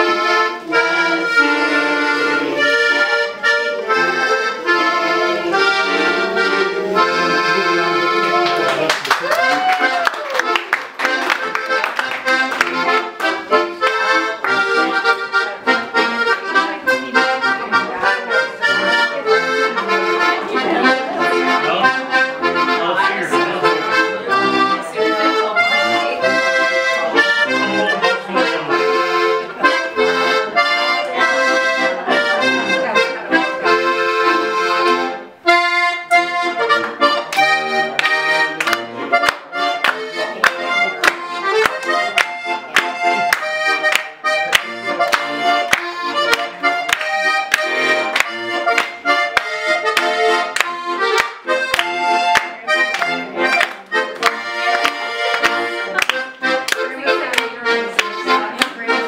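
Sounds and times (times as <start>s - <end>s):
button accordion playing chords: 0.0s - 9.2s, 9.8s - 59.0s.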